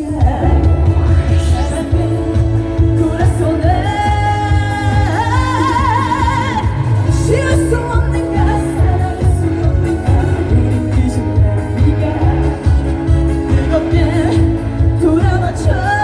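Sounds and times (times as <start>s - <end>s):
backing track with heavy bass: 0.0s - 16.0s
woman singing: 0.0s - 16.0s.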